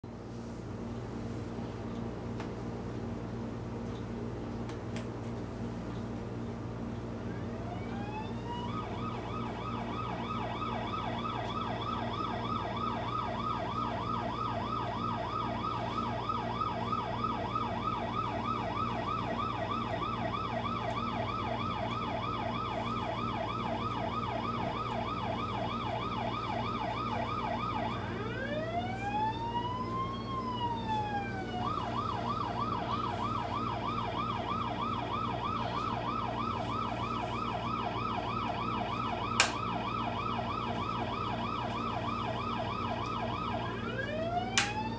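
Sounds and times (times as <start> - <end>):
steady low hum: 0.0 - 44.9
fire engine siren: 7.2 - 44.9.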